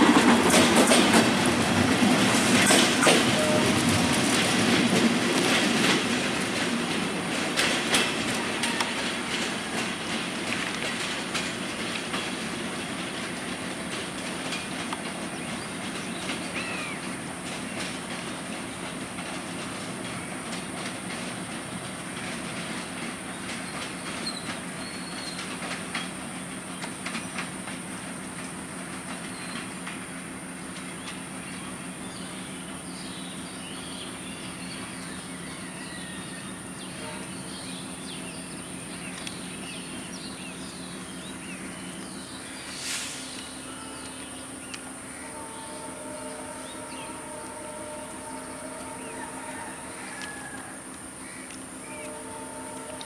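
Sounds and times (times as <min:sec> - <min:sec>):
train low rumble: 0:00.0 - 0:53.0
train wheels clicking on rail joints: 0:00.0 - 0:53.0.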